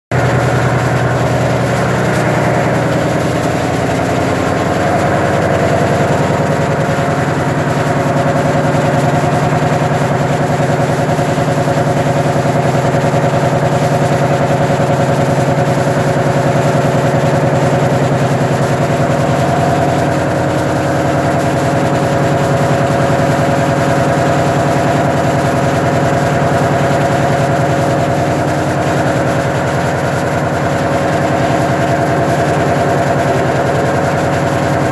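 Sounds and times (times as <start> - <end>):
engine-room machinery drone: 0.1 - 34.9.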